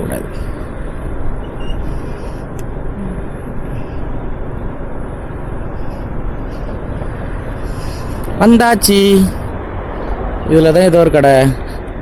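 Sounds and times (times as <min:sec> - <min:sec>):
wind and road noise from motorcycle: 0:00.0 - 0:12.0.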